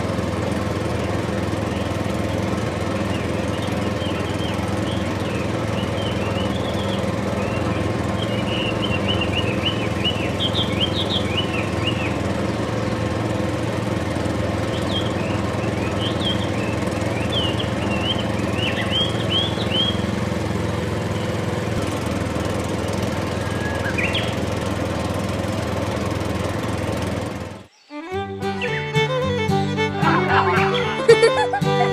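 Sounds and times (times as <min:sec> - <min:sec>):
small motor droning: 0:00.0 - 0:31.9.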